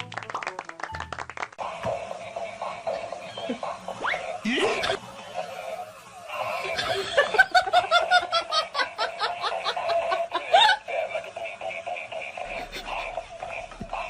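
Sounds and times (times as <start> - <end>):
person laughing: 2.1 - 14.0.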